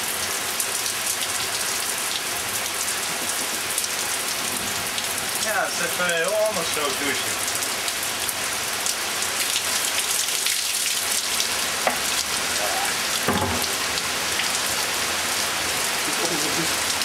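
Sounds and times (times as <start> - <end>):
heavy rain hissing: 0.0 - 17.0
raindrops ticking and splashing: 0.0 - 17.0.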